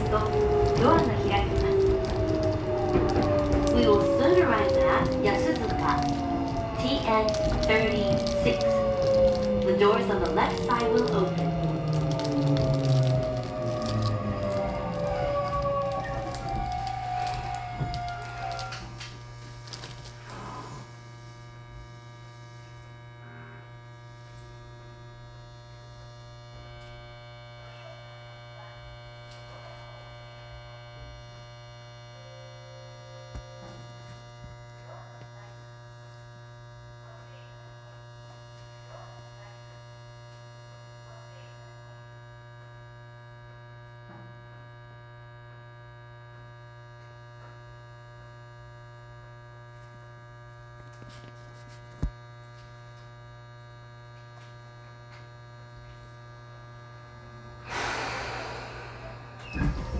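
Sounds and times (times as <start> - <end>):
train electrical hum: 0.0 - 59.9.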